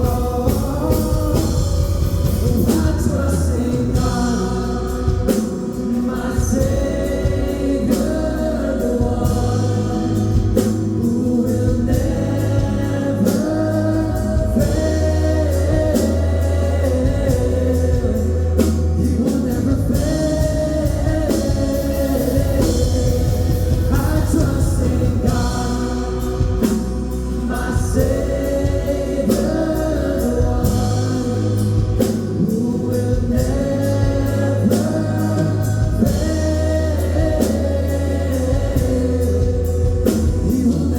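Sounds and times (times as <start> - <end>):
band with bass and drums: 0.0 - 40.9
group of voices singing: 0.0 - 40.9.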